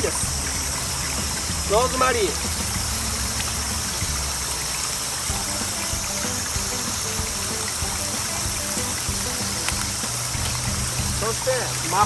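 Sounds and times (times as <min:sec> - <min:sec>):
flowing stream: 0:00.0 - 0:12.0
soft background music: 0:00.0 - 0:12.0
steak searing in a frying pan: 0:00.0 - 0:12.0.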